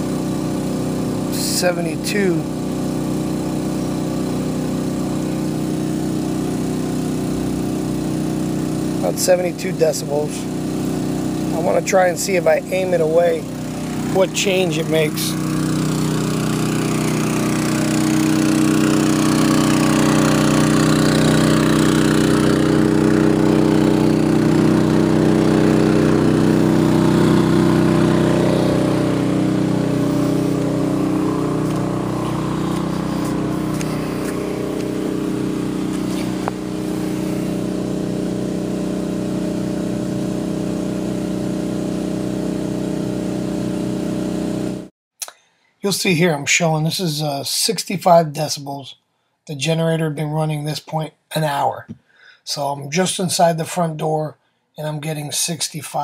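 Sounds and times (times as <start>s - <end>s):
generator engine humming: 0.0s - 44.9s.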